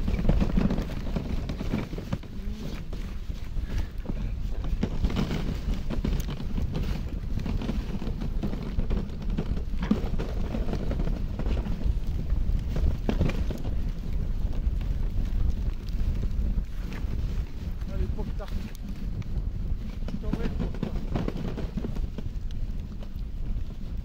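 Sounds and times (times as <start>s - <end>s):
sled runners hissing on snow: 0.0s - 22.7s
sled knocking and rattling: 0.0s - 24.0s
wind rushing over microphone: 0.0s - 24.0s.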